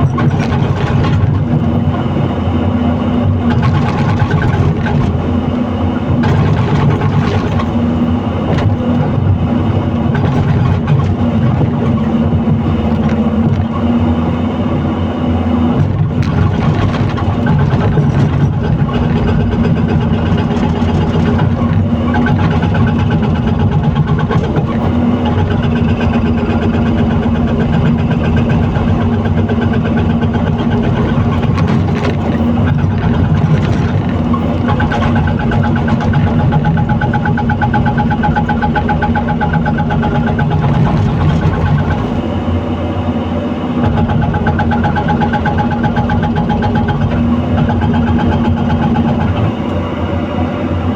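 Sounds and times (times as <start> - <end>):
diesel engine running: 0.0 - 50.9
high machine whine: 0.0 - 50.9.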